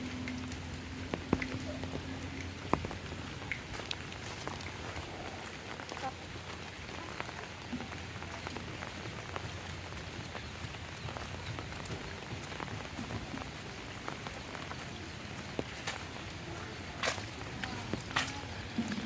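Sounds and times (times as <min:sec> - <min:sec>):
raindrops ticking on surfaces: 0:00.0 - 0:19.0
steady rain: 0:00.0 - 0:19.0.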